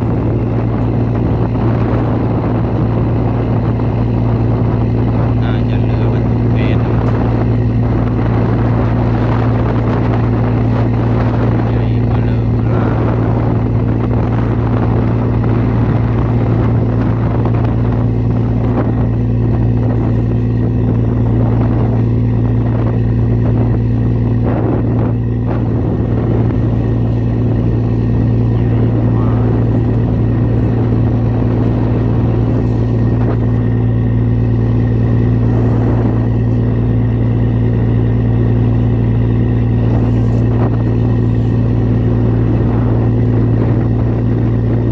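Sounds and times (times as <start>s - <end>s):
boat engine running steadily: 0.0s - 44.9s.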